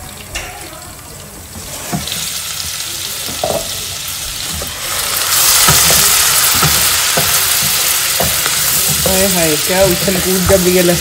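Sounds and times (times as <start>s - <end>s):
garlic sizzling in butter: 1.4s - 11.0s.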